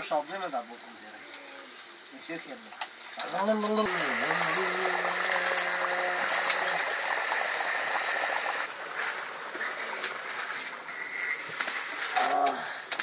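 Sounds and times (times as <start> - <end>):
wood fire crackling: 0.0 - 13.0
curry boiling in a wok: 0.6 - 13.0.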